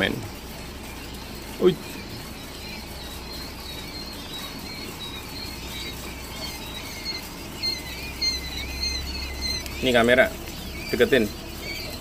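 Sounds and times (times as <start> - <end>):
low steady hum: 0.0 - 12.0
quail chicks peeping: 0.0 - 12.0.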